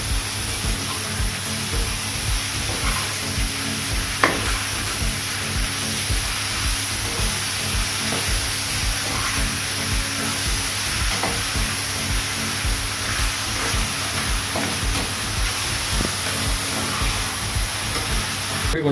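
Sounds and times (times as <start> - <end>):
vegetables frying in oil: 0.0 - 18.9.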